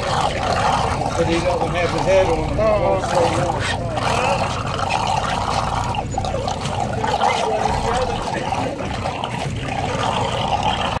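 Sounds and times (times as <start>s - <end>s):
low steady rumble: 0.0s - 11.0s
trickling water: 0.0s - 11.0s.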